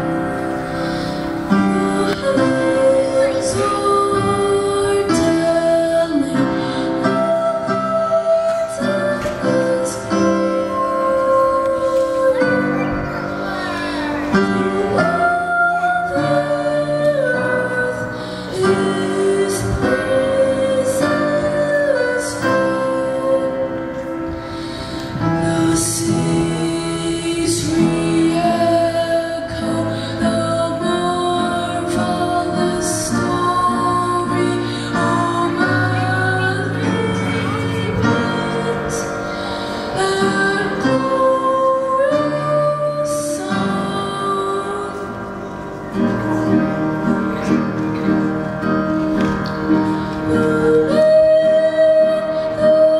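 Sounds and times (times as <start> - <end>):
soft instrumental accompaniment: 0.0 - 52.9
boy singing into a microphone: 0.8 - 52.9.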